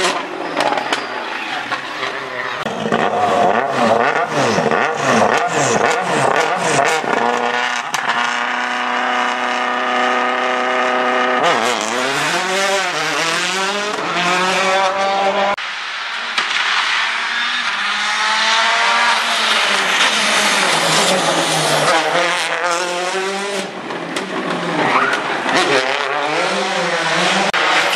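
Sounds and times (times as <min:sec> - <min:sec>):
rally car engine revving: 0:01.7 - 0:15.6, 0:16.3 - 0:27.9.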